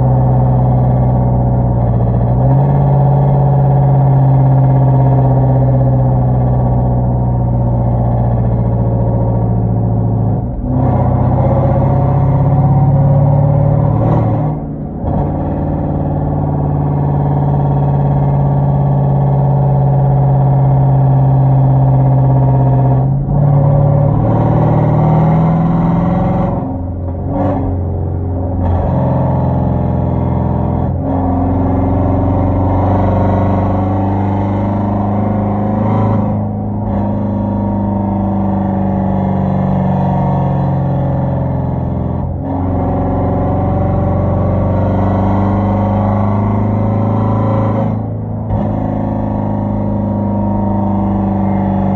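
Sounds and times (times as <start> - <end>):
loud droning car exhaust: 0.0 - 51.9.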